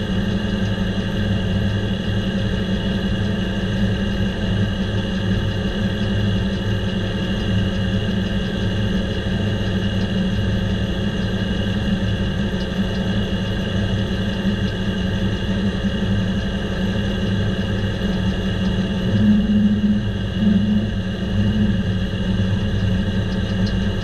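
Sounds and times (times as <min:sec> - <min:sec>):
circular sawmill blade spinning: 0:02.6 - 0:24.0.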